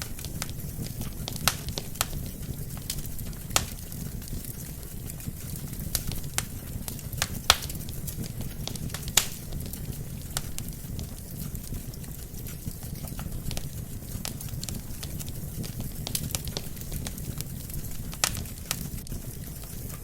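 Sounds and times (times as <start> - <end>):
burning logs crackling and popping: 0.0 - 20.0
low rumble of flames: 0.0 - 20.0.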